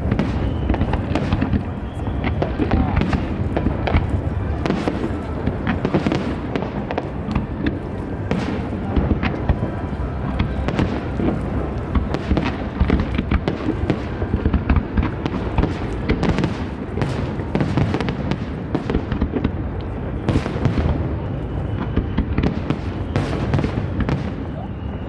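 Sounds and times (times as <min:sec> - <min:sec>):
continuous low rumble: 0:00.0 - 0:25.0
fireworks bangs and crackling: 0:00.0 - 0:25.0.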